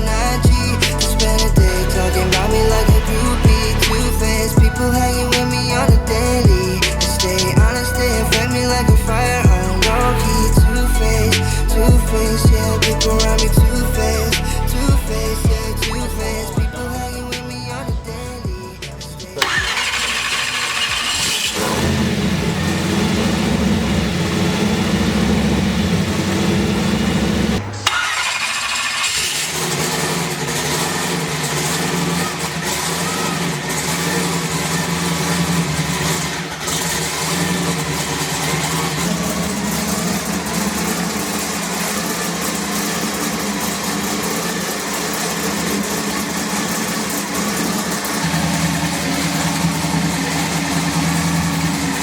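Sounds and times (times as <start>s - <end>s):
race car engine idling: 0.0s - 52.0s.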